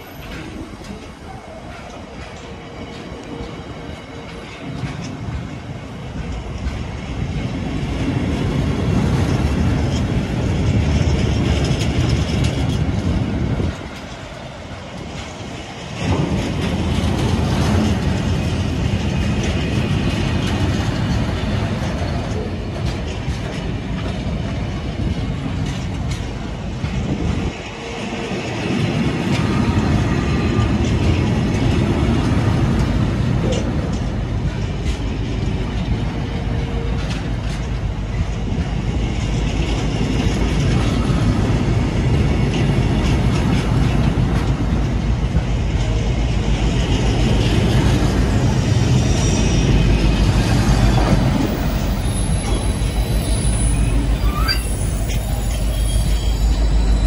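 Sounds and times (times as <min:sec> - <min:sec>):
freight train passing: 0:00.0 - 0:57.0
steel wheels clattering on rails: 0:00.0 - 0:57.0.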